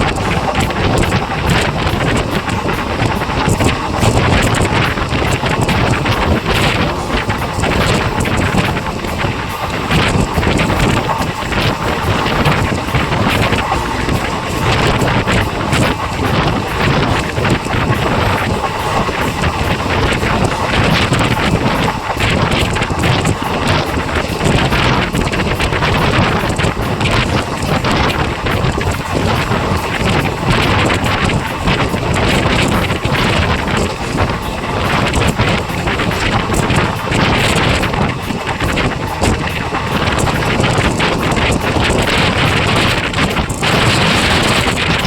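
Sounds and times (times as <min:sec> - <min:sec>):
train running rumble: 0:00.0 - 0:45.0
wind buffeting microphone: 0:00.0 - 0:45.0.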